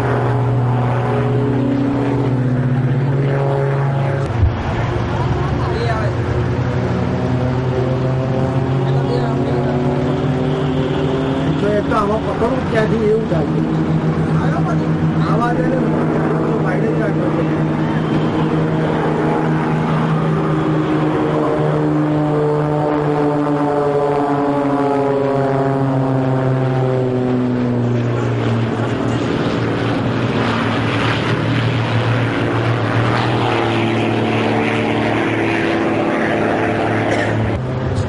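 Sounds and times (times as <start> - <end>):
propeller plane engine drone: 0.0 - 38.0.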